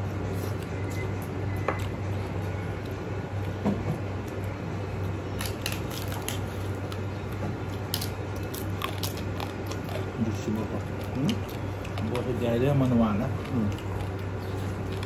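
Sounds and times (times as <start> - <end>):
steady low hum: 0.0 - 15.0
chewing and lip smacks: 0.3 - 15.0.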